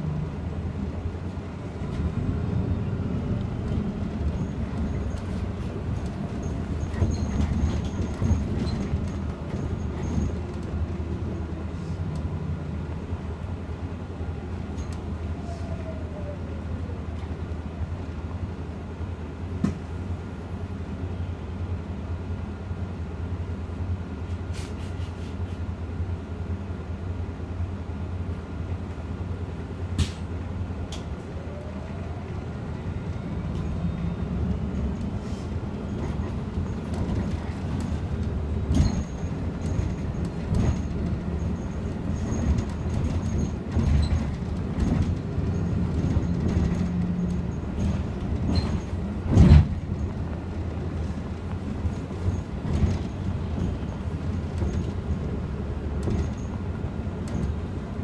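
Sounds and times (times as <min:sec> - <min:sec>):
bus drivetrain and road hum: 0:00.0 - 0:58.0.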